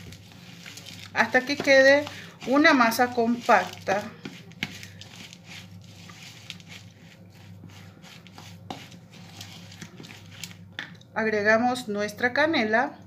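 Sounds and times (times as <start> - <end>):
spoon scraping plastic bowl: 0.0 - 10.6
steady low hum: 0.0 - 13.0.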